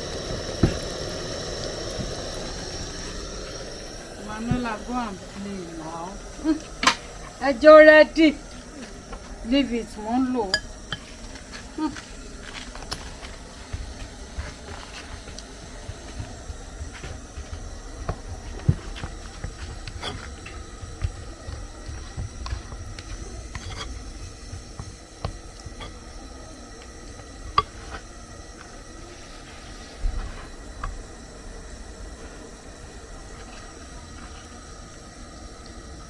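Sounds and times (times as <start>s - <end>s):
faint hiss: 0.0s - 36.0s.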